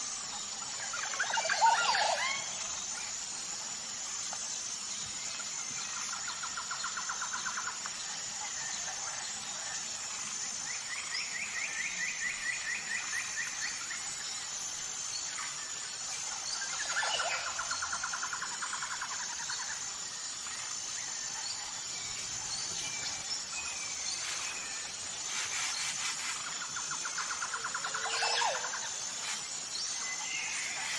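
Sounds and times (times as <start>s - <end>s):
steady high hiss: 0.0s - 30.9s.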